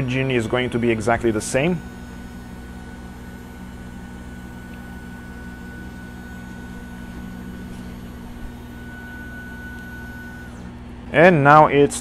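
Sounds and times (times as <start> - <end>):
high whine: 0.0 - 12.0
machine electrical hum: 0.0 - 12.0.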